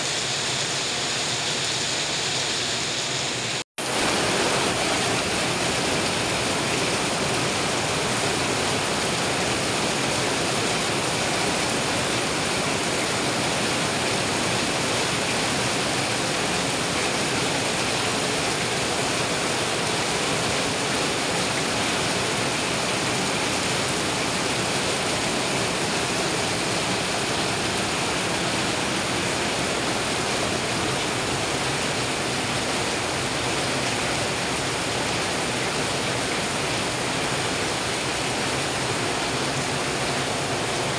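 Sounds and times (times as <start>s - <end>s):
rain pouring off a roof: 0.0s - 40.9s.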